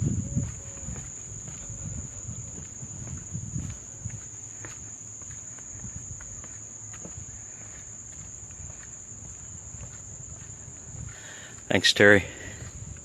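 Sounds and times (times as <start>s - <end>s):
footsteps on wooden boardwalk: 0.0s - 11.7s, 12.3s - 13.0s
crickets trilling: 0.0s - 13.0s.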